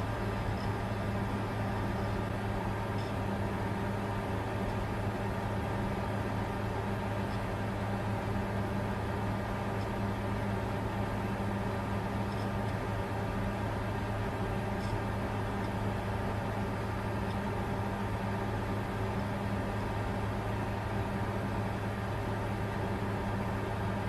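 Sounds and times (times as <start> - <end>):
cooling fans rushing: 0.0 - 24.0
low even hum: 0.0 - 24.0.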